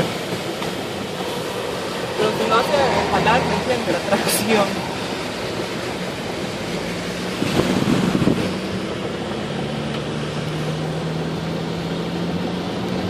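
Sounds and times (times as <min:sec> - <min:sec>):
heavy rain and road water: 0:00.0 - 0:13.0
vehicle engine humming: 0:00.0 - 0:13.0.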